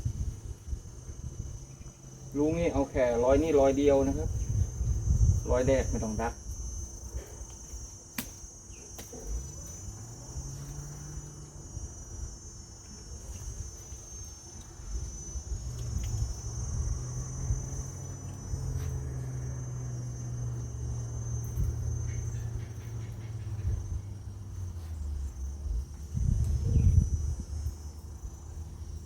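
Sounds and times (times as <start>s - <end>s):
low motor hum: 0.0s - 5.9s, 9.2s - 29.0s
crickets chirping: 0.0s - 29.0s.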